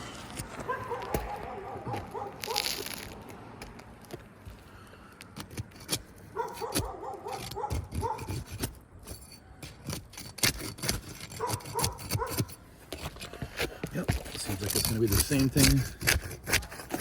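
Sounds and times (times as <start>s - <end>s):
shingles being pried up: 0.0s - 17.0s.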